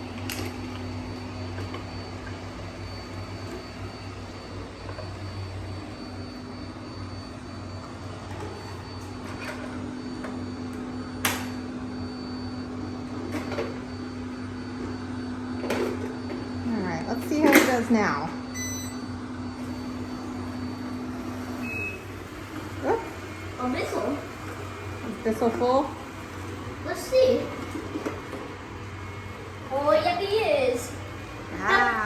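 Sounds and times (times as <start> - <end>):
robot vacuum cleaner running: 0.0 - 32.0.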